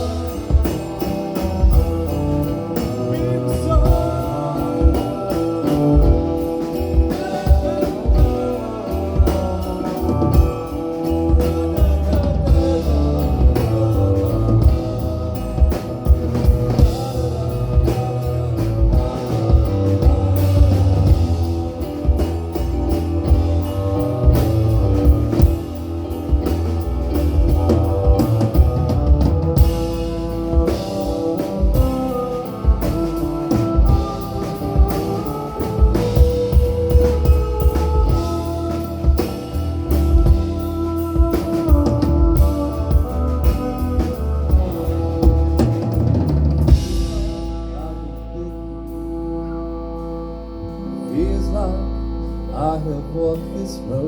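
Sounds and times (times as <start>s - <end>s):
steady drum hits: 0.0s - 47.8s
folk band playing: 0.0s - 54.0s.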